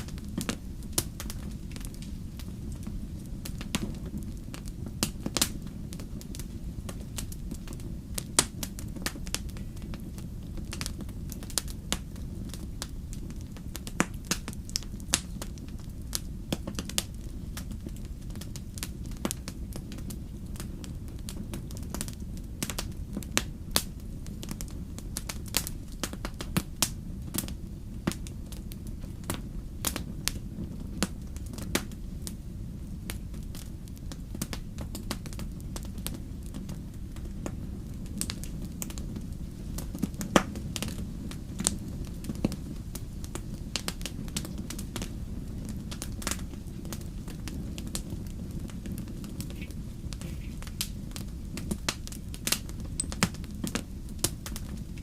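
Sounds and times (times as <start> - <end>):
sharp pops of fire: 0.0 - 55.0
steady low rumble: 0.0 - 55.0
wood fire crackling: 0.0 - 55.0.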